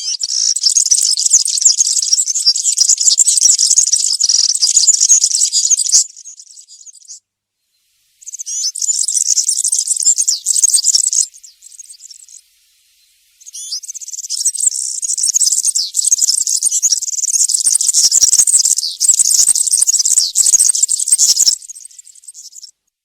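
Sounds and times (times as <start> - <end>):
bird singing high-pitched song: 0.0 - 22.8.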